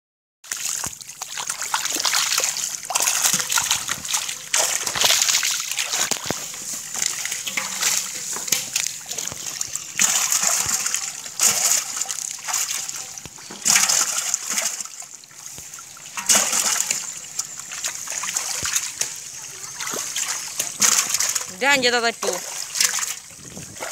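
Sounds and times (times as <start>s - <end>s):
fish splashing in water: 0.4s - 23.9s.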